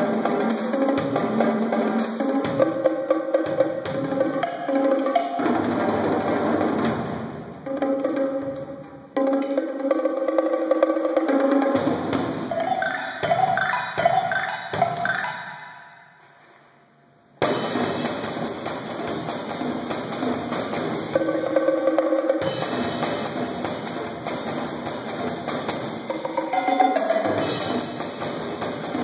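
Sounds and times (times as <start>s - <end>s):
drum kit and percussion playing: 0.0s - 16.0s, 17.4s - 29.0s.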